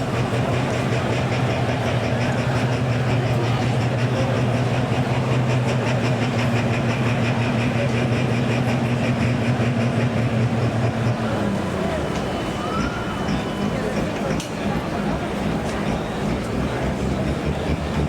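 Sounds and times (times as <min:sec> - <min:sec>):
diesel truck engine running hard: 0:00.0 - 0:18.0.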